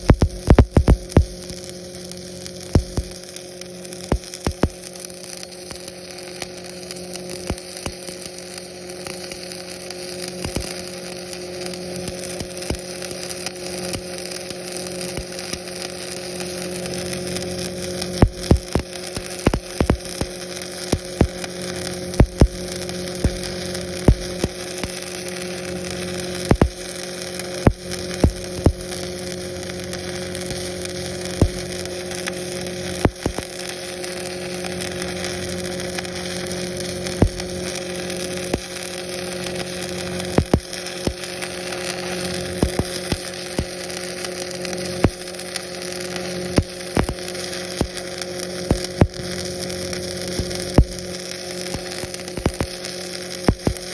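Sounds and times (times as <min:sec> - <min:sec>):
welding arc crackling and popping: 0:00.0 - 0:53.9
welding machine engine humming: 0:00.0 - 0:53.9.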